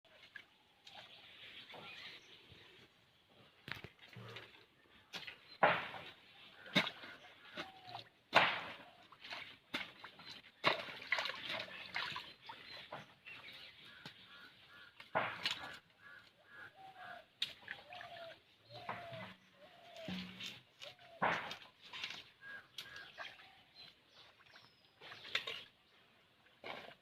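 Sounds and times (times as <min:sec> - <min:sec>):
splashes and squelches of mud: 0:00.1 - 0:02.3, 0:03.5 - 0:27.0.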